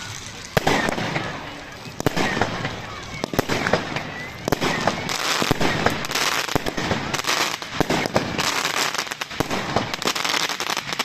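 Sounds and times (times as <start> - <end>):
continuous crackling hiss: 0.0 - 11.0
fireworks bangs and crackles: 0.0 - 11.0.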